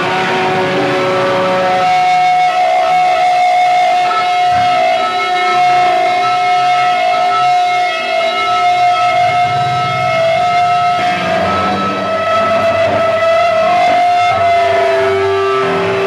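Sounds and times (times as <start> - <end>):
high held guitar tone: 0.0 - 16.0
live rock band: 0.0 - 16.0.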